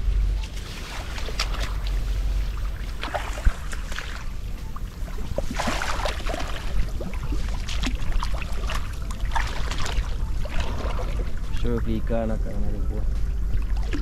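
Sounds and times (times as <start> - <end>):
water sloshing and splashing: 0.2 - 12.5, 13.1 - 14.0.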